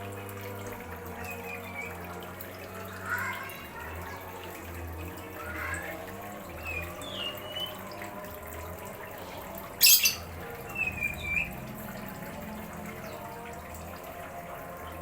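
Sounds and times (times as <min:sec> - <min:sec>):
running water: 0:00.0 - 0:15.0
songbirds chirping: 0:00.4 - 0:15.0.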